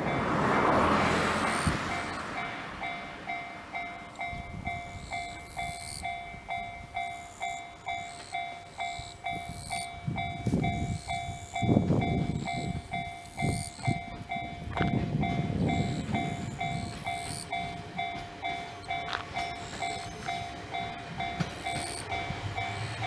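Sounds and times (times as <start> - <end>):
level-crossing alarm dinging: 0.0 - 23.0.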